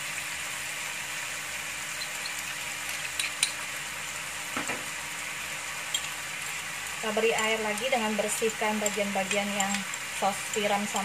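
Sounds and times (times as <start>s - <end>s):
stir-fry sizzling in a frying pan: 0.0s - 11.0s.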